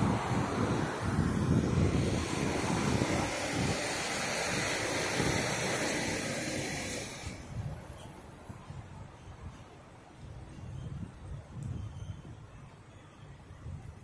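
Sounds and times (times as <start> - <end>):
traffic passing: 0.0 - 14.0
wind rumbling on microphone: 0.0 - 14.0.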